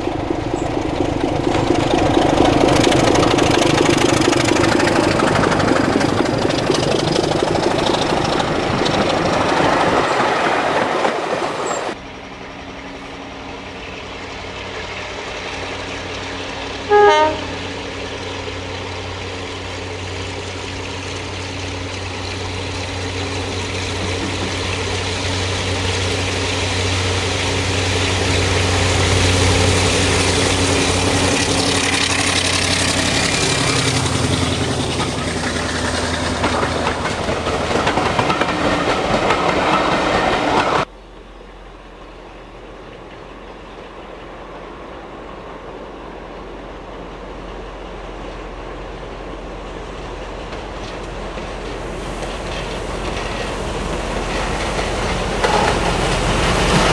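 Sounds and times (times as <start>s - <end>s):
diesel locomotive passing: 0.0s - 56.9s
train rolling: 0.0s - 56.9s.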